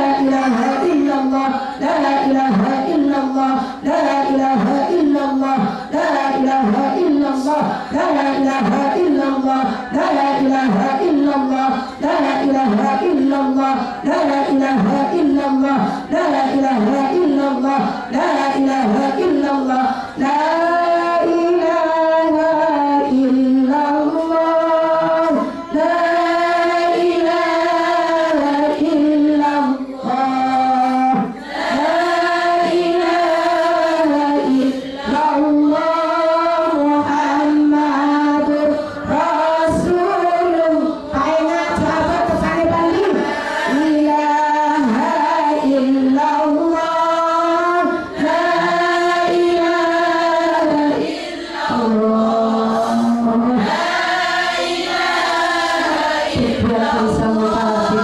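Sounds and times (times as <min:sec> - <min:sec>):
woman chanting into a microphone: 0:00.0 - 0:58.0
women's voices singing: 0:00.0 - 0:58.0.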